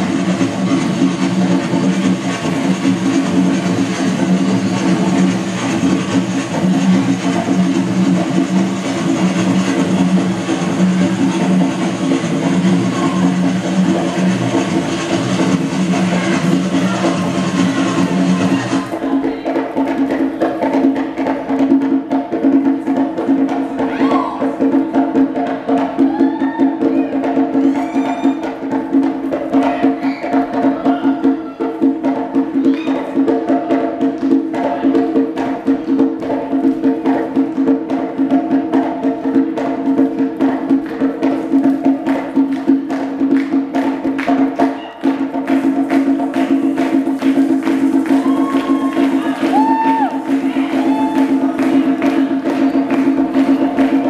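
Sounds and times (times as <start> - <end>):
hand drum rhythm: 0.0 - 54.0.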